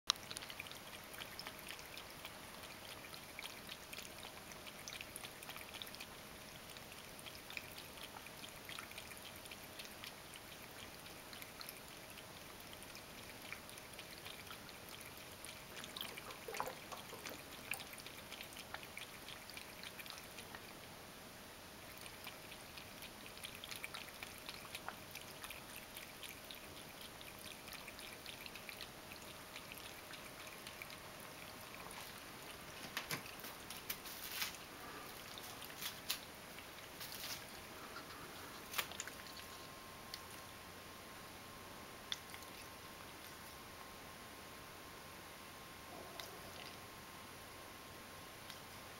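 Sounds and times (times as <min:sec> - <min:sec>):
cat lapping water: 0:00.1 - 0:20.9, 0:21.7 - 0:40.5, 0:42.0 - 0:43.6, 0:46.0 - 0:46.9.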